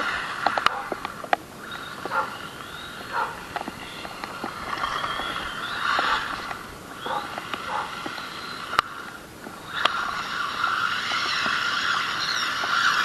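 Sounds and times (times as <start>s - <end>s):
sharp clicks: 0.0s - 13.0s
toy truck electric motor whining: 0.0s - 13.0s.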